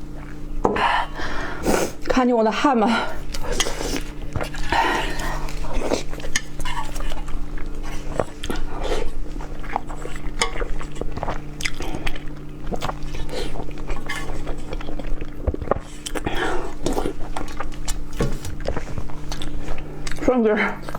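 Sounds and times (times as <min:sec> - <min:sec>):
person chewing food: 0:00.0 - 0:02.2, 0:02.9 - 0:20.9
steady low hum: 0:00.0 - 0:20.9.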